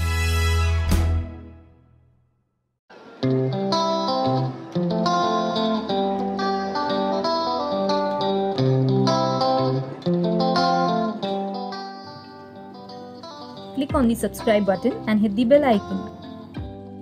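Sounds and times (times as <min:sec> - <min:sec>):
plucked guitar melody: 0:03.0 - 0:17.0.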